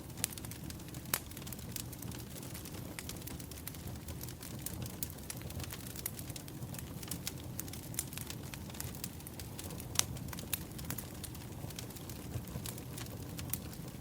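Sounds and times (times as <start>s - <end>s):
firewood crackling: 0.0s - 14.0s
low rumble of flames: 0.0s - 14.0s.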